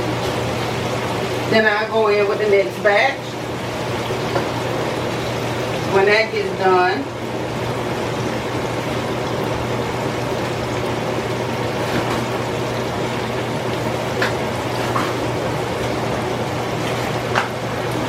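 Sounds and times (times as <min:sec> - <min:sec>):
oil sizzling with pops: 0:00.0 - 0:18.0.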